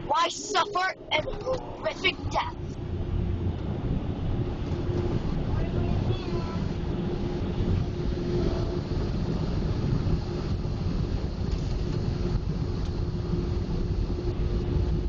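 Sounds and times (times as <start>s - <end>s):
car wash machinery humming: 0.0s - 15.0s.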